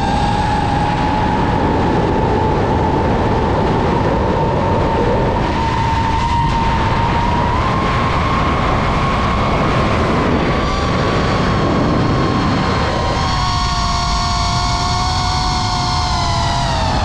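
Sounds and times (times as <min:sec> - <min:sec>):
drone propellers whining: 0:00.0 - 0:17.0
loud rushing noise: 0:00.0 - 0:17.0.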